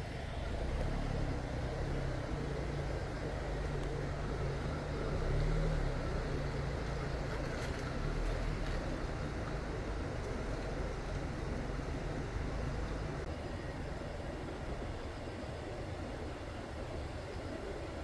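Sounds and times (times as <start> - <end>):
stream rushing and splashing: 0.0 - 18.0.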